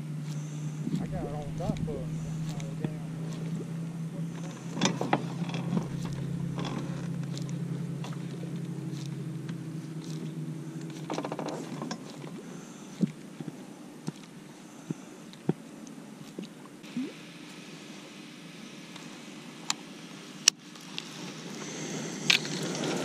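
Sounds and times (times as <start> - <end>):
electric trolling motor humming: 0.0 - 23.0.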